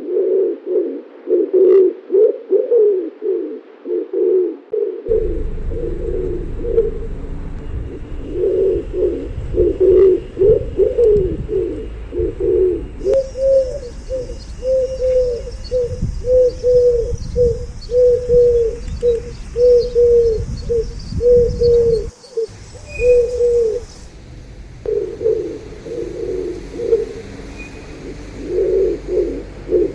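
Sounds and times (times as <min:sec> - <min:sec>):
pigeons cooing: 0:00.0 - 0:23.9, 0:24.8 - 0:29.9.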